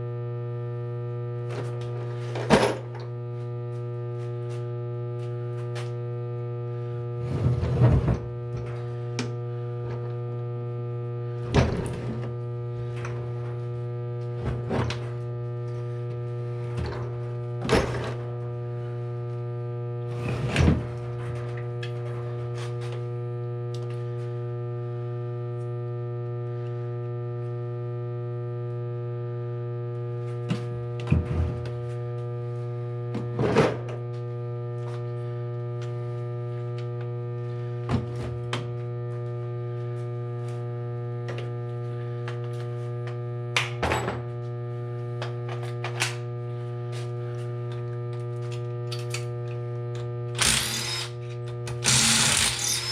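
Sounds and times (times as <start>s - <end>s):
steady electrical hum: 0.0s - 52.9s.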